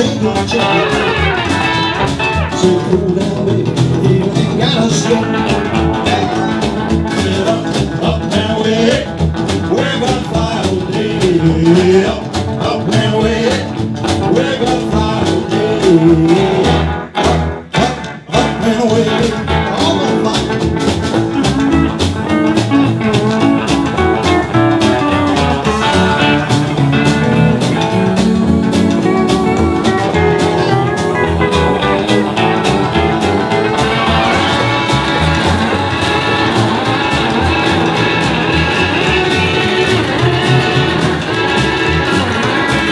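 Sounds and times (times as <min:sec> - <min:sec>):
man singing: 0:00.0 - 0:16.9, 0:17.7 - 0:20.8, 0:23.0 - 0:40.9
rockabilly band playing: 0:00.0 - 0:42.9.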